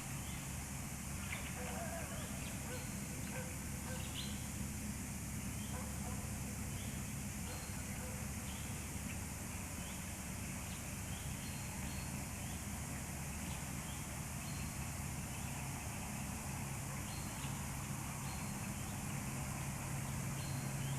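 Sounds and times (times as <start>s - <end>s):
low hum and hiss: 0.0s - 20.9s.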